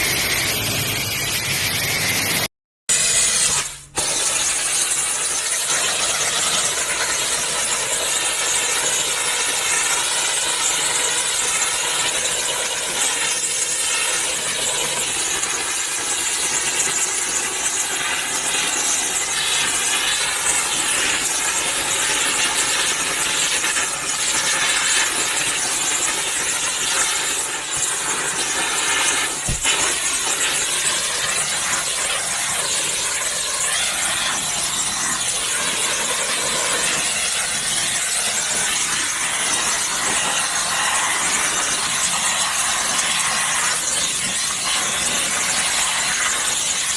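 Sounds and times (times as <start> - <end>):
pressure washer spray hissing: 2.9 - 46.9.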